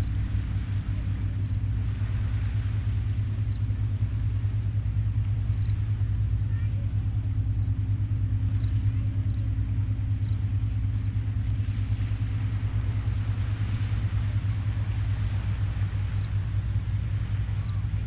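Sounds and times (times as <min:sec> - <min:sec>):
ocean surf rumbling: 0:00.0 - 0:18.0.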